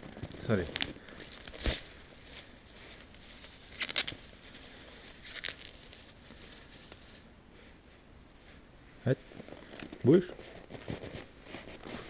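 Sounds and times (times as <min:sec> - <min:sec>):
crunching handling rustles: 0:00.0 - 0:12.0.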